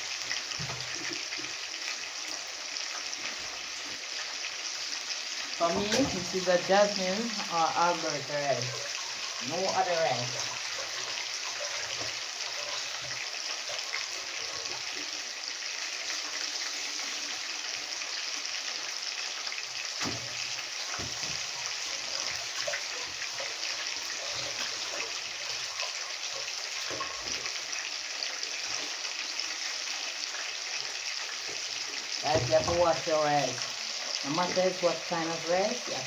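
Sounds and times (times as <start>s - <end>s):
water running from tap: 0.0s - 36.0s.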